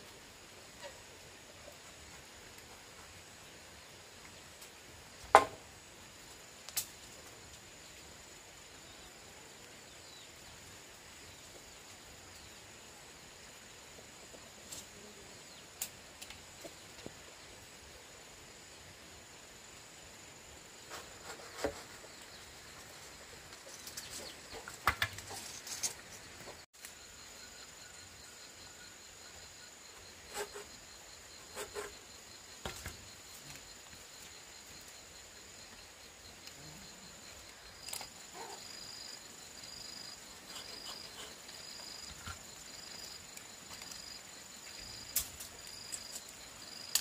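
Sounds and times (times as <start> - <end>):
faint high insect trill: 0.0 - 47.0.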